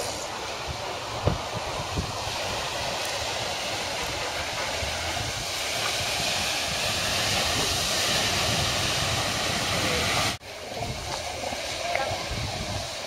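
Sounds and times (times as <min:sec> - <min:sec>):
surf breaking on rocky beach: 0:00.0 - 0:13.0.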